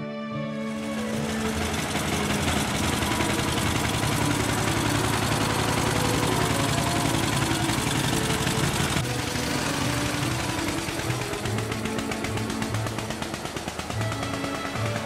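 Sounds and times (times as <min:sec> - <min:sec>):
old car engine running: 0:00.5 - 0:15.0.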